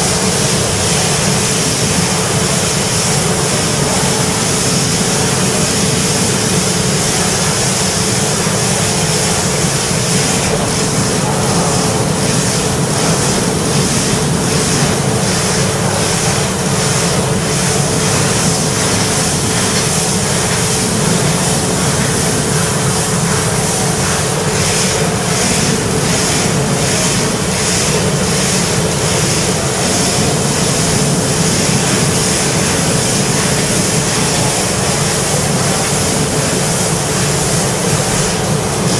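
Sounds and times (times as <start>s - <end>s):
laser cutter hissing: 0.0s - 38.9s.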